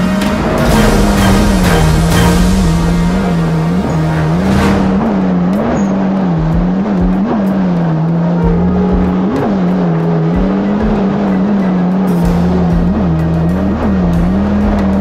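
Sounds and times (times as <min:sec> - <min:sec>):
jet ski engine running: 0:00.0 - 0:15.0
low thumps: 0:00.0 - 0:15.0.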